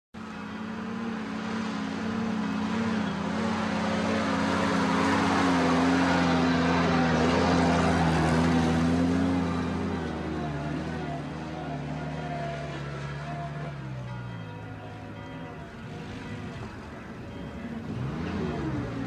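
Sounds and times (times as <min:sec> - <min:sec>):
van engine driving past: 0:00.2 - 0:19.0.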